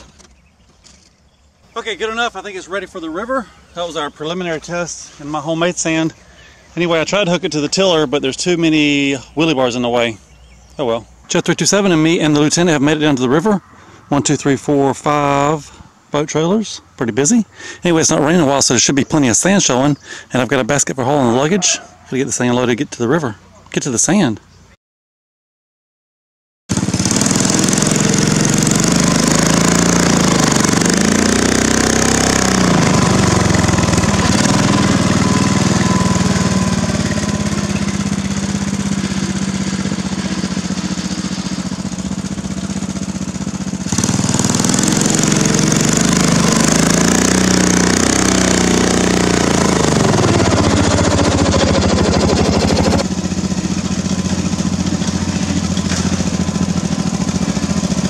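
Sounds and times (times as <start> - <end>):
riding mower engine revving: 0.0 - 21.6, 26.7 - 58.0.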